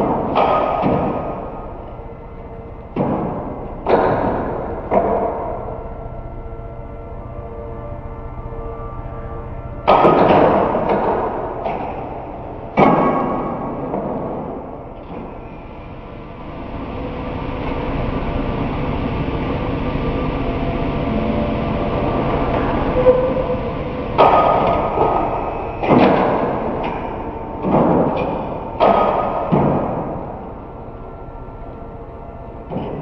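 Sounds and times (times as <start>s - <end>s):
clamp machine running: 0.0s - 33.0s.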